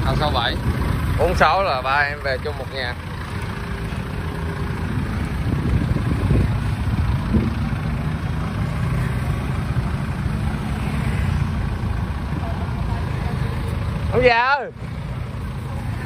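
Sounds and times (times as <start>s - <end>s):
engine running low rumble: 0.0s - 16.0s.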